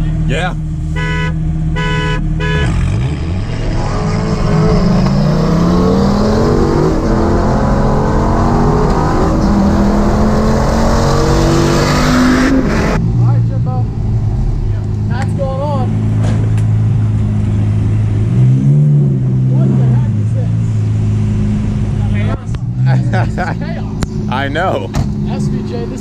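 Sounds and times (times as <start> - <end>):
sports car engine accelerating: 0.0 - 26.0.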